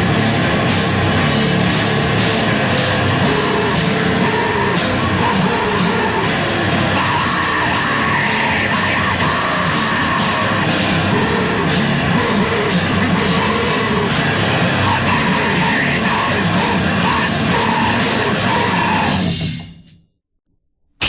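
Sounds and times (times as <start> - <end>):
shouted vocals: 0.0 - 19.3
heavy metal band playing: 0.0 - 19.5.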